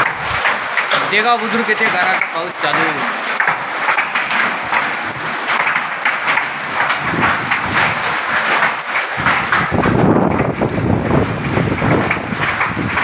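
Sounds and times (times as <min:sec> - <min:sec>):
hail and rain pelting gravel: 0:00.0 - 0:13.0.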